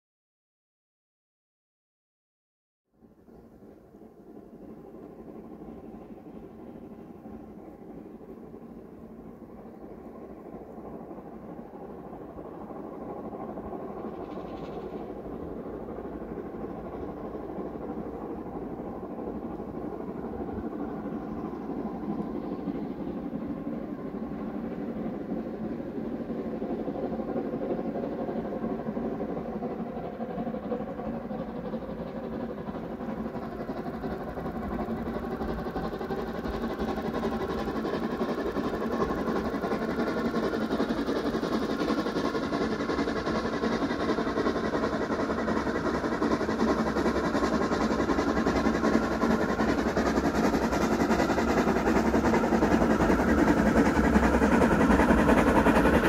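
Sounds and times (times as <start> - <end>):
train approaching: 3.0 - 56.0.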